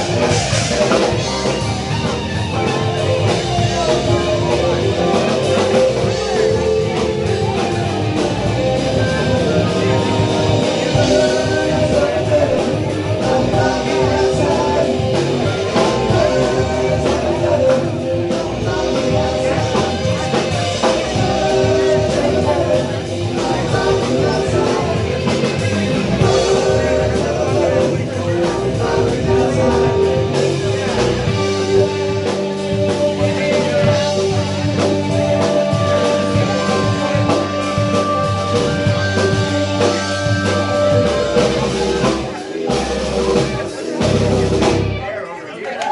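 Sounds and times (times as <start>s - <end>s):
person singing: 0.0s - 45.2s
drums: 0.0s - 45.9s
guitar: 0.0s - 45.9s
rock band playing: 0.0s - 45.9s.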